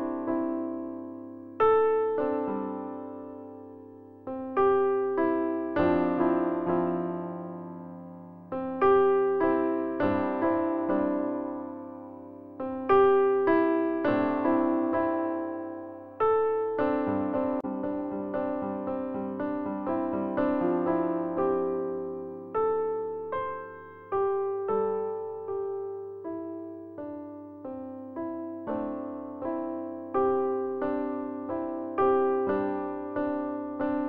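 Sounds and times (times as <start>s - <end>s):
electric piano music: 0.0s - 34.0s.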